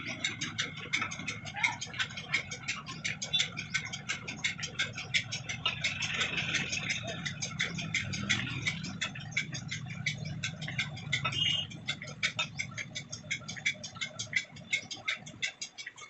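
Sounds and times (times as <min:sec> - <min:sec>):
low steady machine hum: 0:00.0 - 0:15.9
machine rapid ticking: 0:00.0 - 0:16.0.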